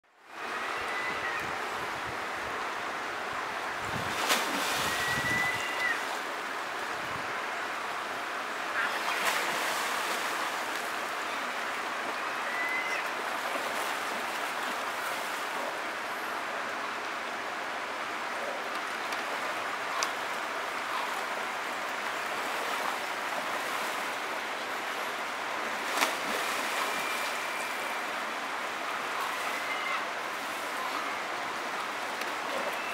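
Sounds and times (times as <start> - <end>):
creek rushing: 0.1 - 32.9.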